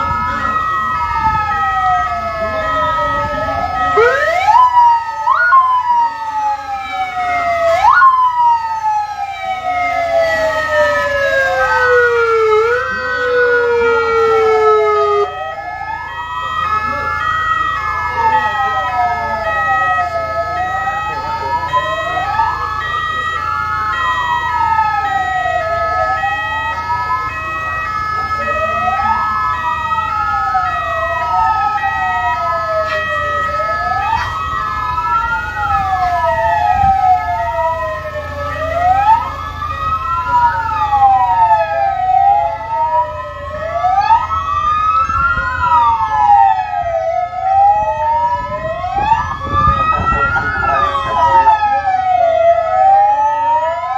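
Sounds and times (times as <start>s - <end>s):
ambulance sirens wailing: 0.0s - 53.9s.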